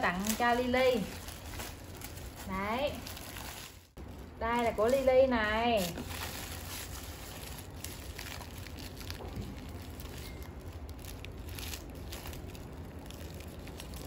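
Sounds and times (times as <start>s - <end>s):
gift wrapping rustling: 0.0s - 14.0s
steady low hum: 0.0s - 14.0s.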